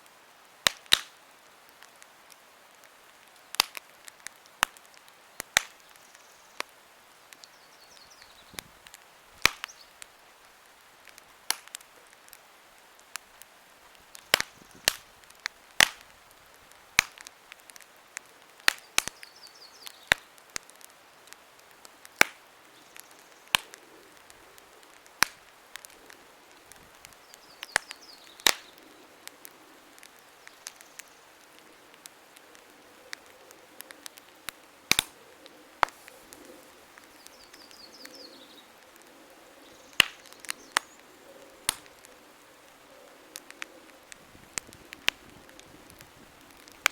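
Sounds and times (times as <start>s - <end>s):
campfire crackling and popping: 0.0s - 46.9s
quiet hiss: 0.0s - 46.9s.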